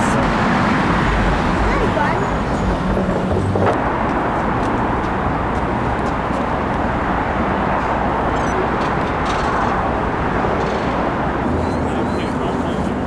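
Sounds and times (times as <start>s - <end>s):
traffic rushing: 0.0s - 13.0s.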